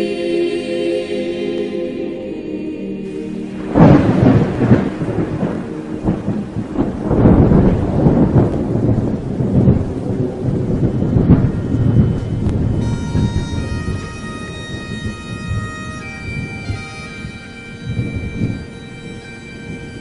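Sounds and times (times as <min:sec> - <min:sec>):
steady rain: 0:03.0 - 0:20.0
thunder rumbling: 0:03.1 - 0:20.0.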